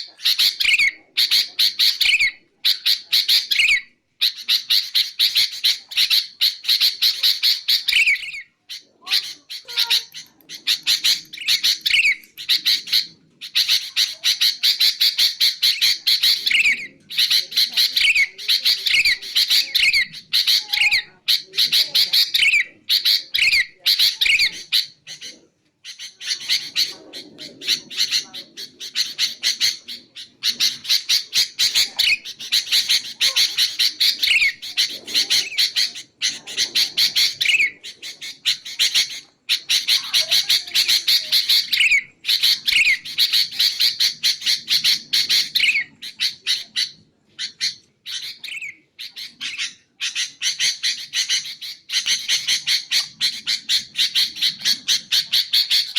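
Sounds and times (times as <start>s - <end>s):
bulbul calling: 0.0s - 55.9s.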